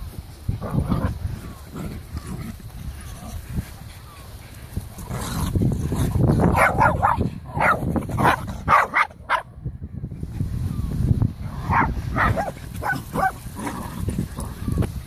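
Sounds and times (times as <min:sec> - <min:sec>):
dogs barking and yipping: 0:00.6 - 0:09.5, 0:11.5 - 0:14.9.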